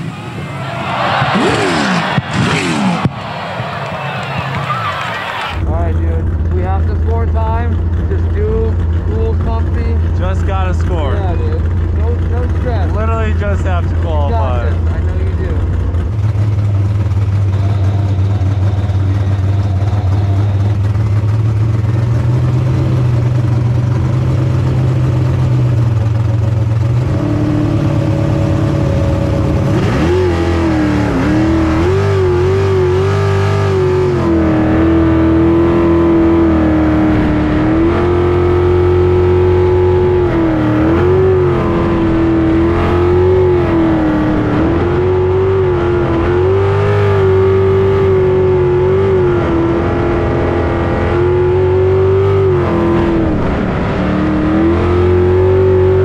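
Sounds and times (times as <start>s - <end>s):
boat engine revving: 0.8s - 56.0s.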